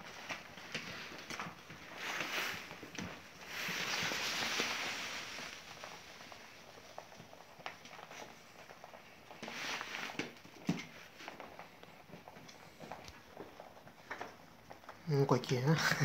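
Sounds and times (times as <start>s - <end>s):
grain rustling: 0.0s - 16.0s.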